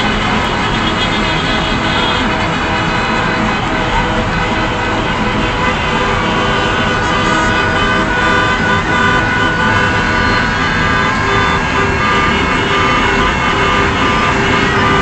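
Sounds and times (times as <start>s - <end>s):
car horns honking: 0.0s - 15.0s
traffic din: 0.0s - 15.0s.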